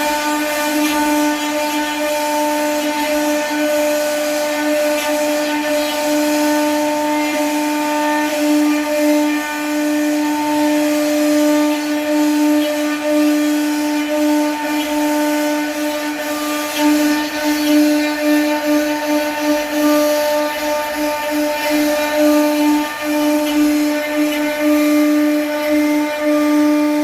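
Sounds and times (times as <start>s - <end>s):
router spindle whine carving wood: 0.0s - 27.0s.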